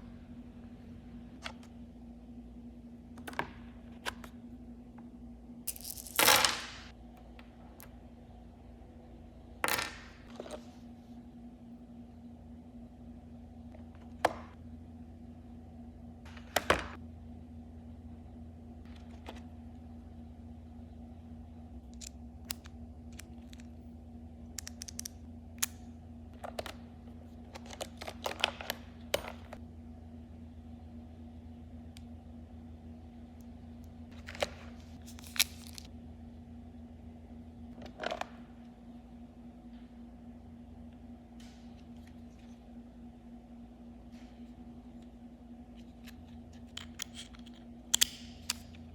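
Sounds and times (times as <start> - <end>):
faint hum: 0.0 - 48.9.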